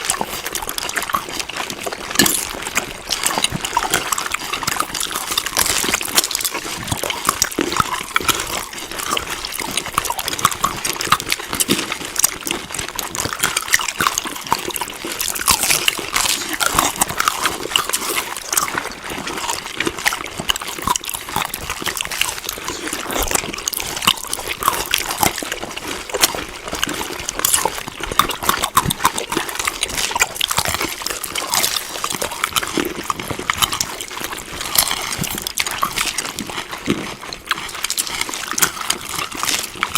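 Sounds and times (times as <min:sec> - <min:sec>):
wet chewing of food: 0:00.0 - 0:39.9.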